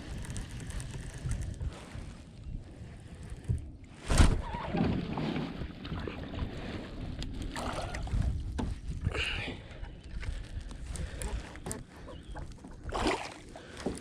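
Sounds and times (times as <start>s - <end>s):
water around a boat: 0.0s - 14.0s.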